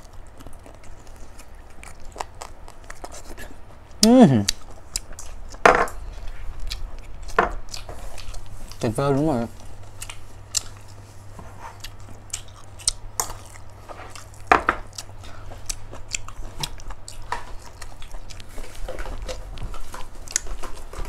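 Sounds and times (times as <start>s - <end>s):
chewing and mouth smacks: 0.0s - 8.9s, 9.5s - 21.0s.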